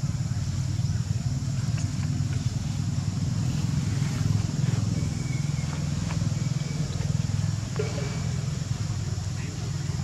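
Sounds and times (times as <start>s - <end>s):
engine humming steadily: 0.0s - 10.0s.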